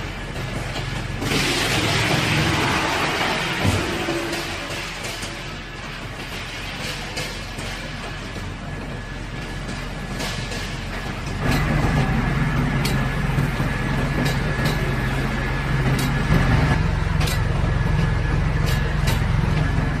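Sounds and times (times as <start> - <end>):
wood chipper droning: 0.0 - 20.0.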